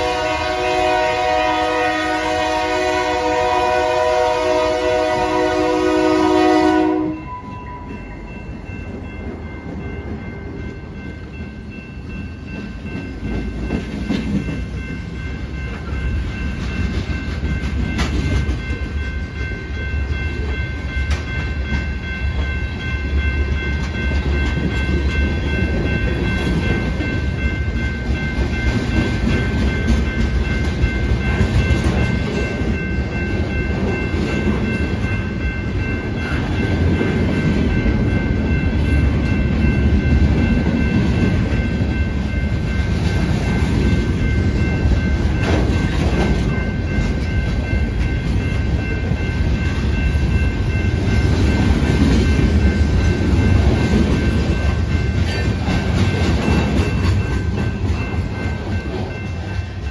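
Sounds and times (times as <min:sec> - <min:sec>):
freight train rumble: 0:00.0 - 0:59.9.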